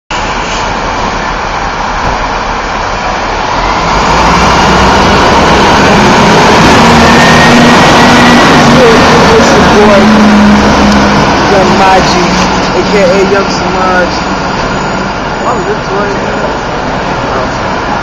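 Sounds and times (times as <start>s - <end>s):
loud traffic noise: 0.1s - 18.0s.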